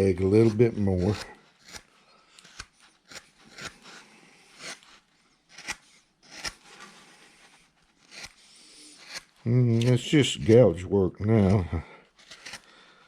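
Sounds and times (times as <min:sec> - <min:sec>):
gouge scraping wood: 0:00.0 - 0:10.6, 0:11.3 - 0:12.7.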